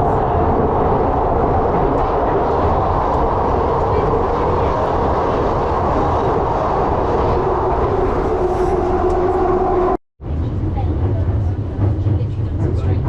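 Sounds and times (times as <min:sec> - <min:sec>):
underground train rumbling in tunnel: 0:00.0 - 0:13.0.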